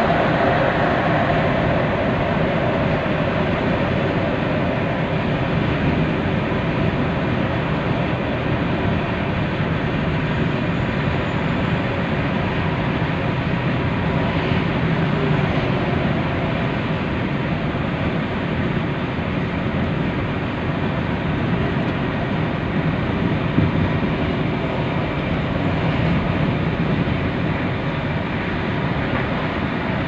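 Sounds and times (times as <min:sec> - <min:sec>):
steady low hum: 0:00.0 - 0:30.0
tyres on road: 0:00.0 - 0:30.0.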